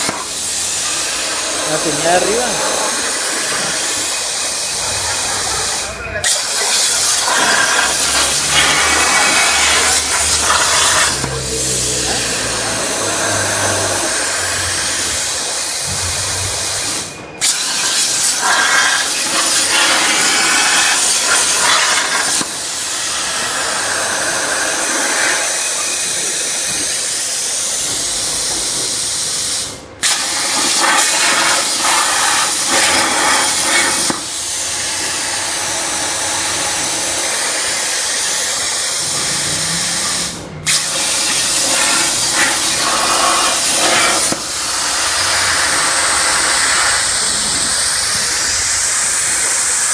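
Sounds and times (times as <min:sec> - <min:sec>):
plasma torch hissing: 0:00.0 - 0:49.9.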